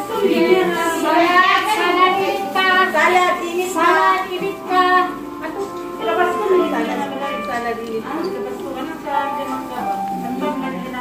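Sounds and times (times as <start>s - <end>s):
instrumental notes: 0.0s - 11.0s.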